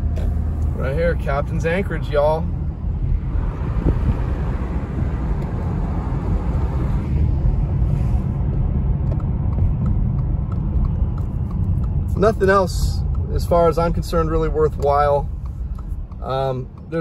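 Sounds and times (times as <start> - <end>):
car tyres and engine rumble: 0.0 - 17.0.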